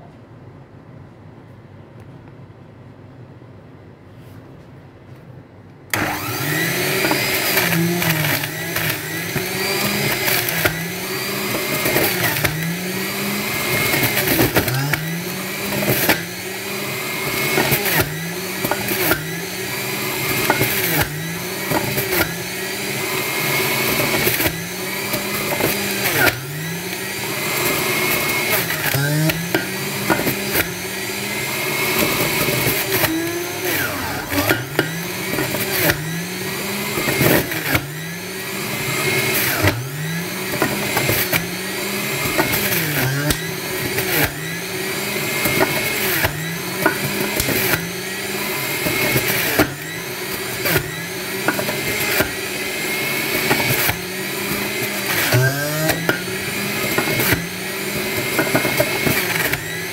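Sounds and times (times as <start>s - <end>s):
juicer motor grinding: 5.9s - 59.9s.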